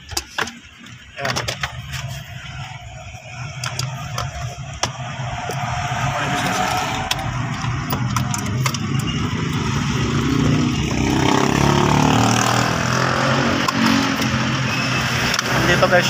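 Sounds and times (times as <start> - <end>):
vehicle engine revving: 2.1 - 16.0.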